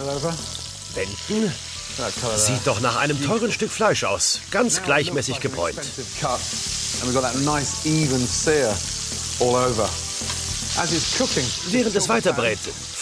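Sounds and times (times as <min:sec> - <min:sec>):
meat sizzling in frying pan: 0:00.0 - 0:13.0.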